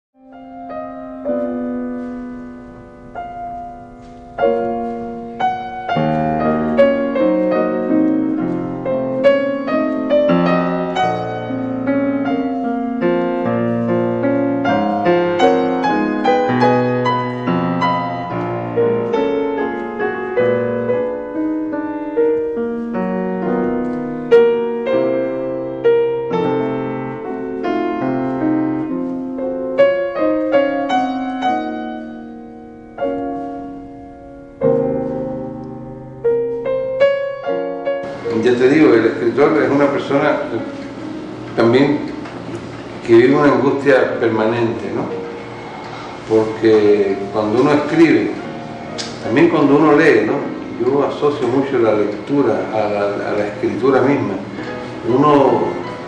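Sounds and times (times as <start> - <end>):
gentle piano music: 0.2 - 56.0.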